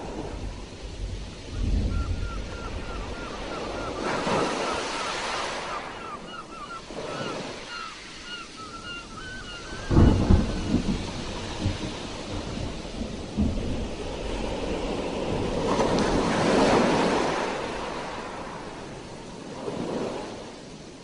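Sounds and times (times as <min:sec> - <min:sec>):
sea waves crashing: 0:00.0 - 0:21.0
surf rumbling: 0:00.0 - 0:21.0.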